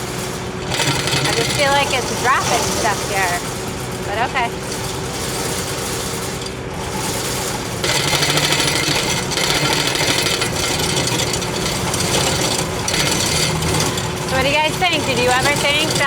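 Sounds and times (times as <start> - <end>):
diesel engine under load: 0.0 - 16.0
grating scraping rattle: 0.0 - 16.0.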